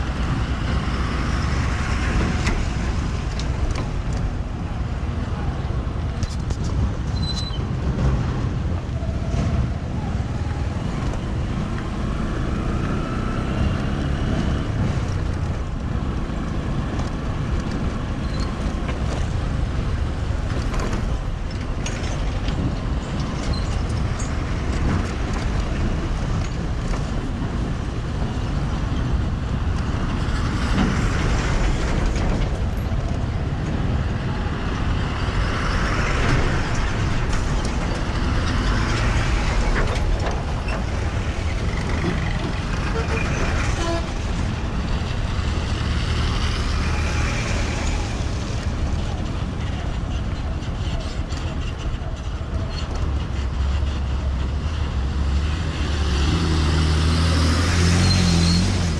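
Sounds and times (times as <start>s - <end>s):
vehicle engine and tyres rumbling: 0.0s - 58.9s.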